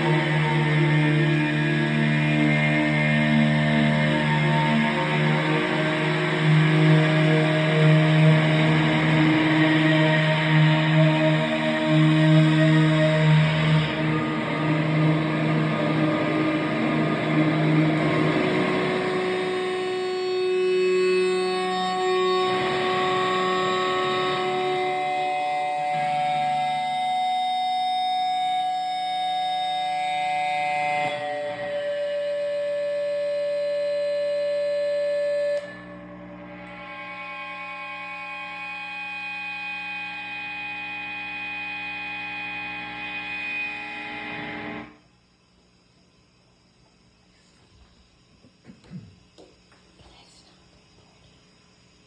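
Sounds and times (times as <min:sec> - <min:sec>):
sustained drone tones: 0:00.0 - 0:45.0.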